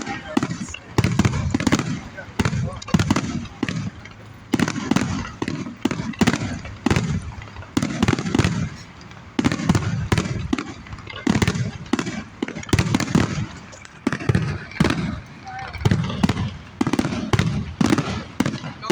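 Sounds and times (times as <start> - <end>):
fireworks exploding: 0.0 - 18.9.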